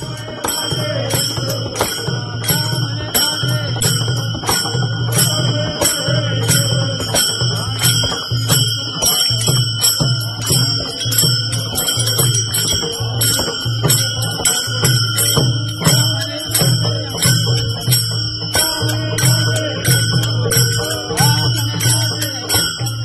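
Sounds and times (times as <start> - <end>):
hand cymbals ringing rhythm: 0.0 - 23.0.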